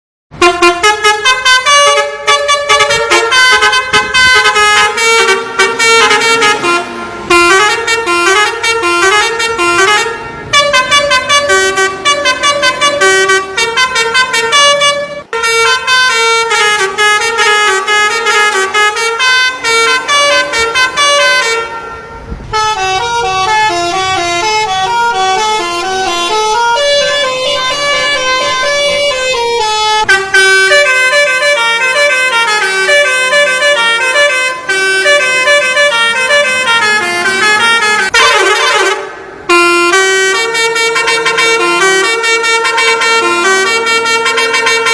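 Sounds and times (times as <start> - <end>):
multi-tone musical bus horn: 0.3 - 44.9.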